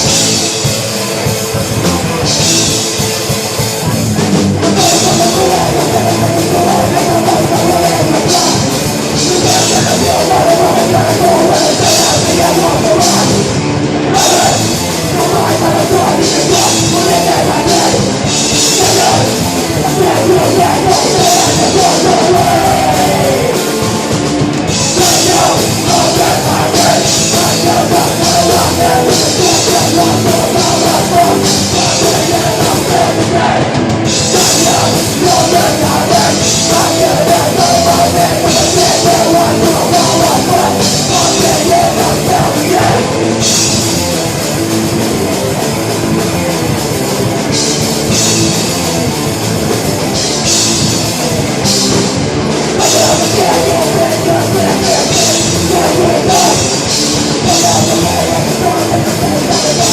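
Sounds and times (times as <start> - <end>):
live hardcore band playing: 0.0 - 59.9.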